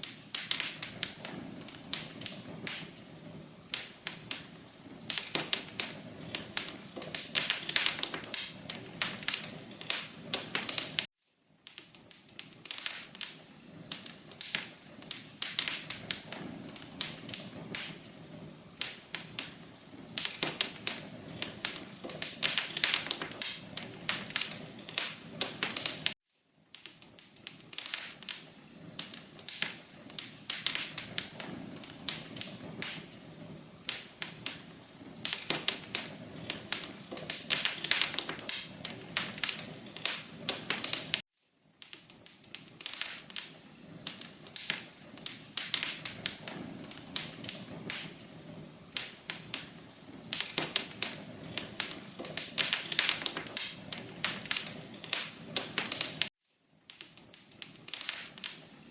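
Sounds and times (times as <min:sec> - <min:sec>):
soft steady hiss: 0:00.0 - 0:58.9
wood fire crackling: 0:00.0 - 0:58.9.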